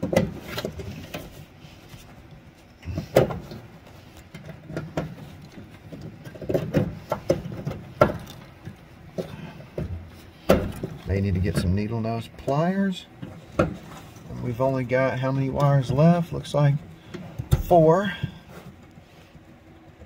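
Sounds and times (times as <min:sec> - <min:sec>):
hand handling wiring: 0:00.0 - 0:20.0.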